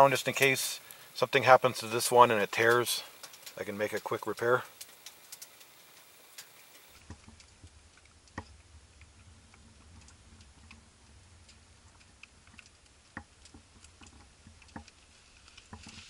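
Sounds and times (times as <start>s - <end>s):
low steady rumble: 0.0s - 16.0s
wood fire crackling: 0.0s - 16.0s.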